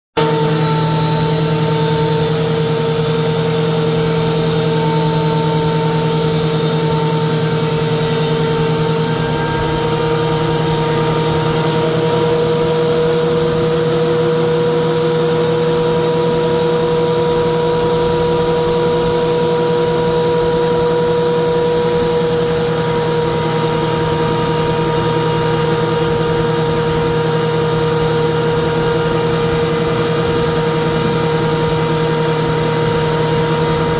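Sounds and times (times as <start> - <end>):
electric wood planer whine: 0.2 - 33.9.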